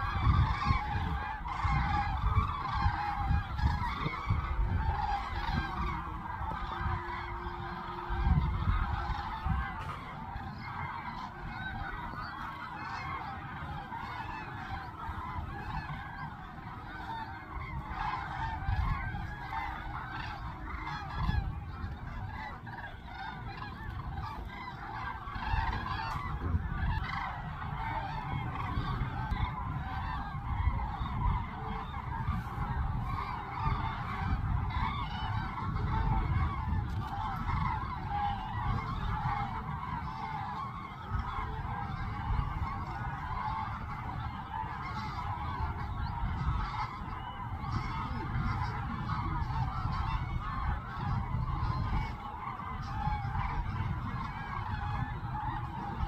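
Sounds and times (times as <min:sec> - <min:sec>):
geese honking: 0:00.0 - 0:56.0.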